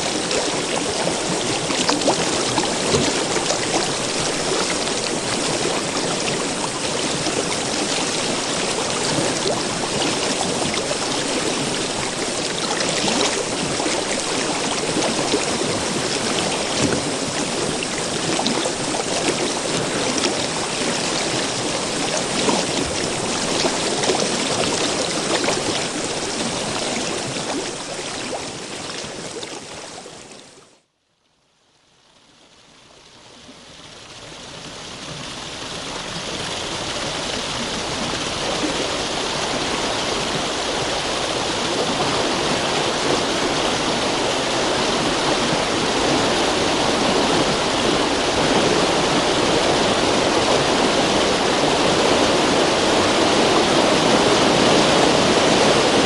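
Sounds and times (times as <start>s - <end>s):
river water flowing: 0.0s - 30.9s, 31.8s - 56.0s.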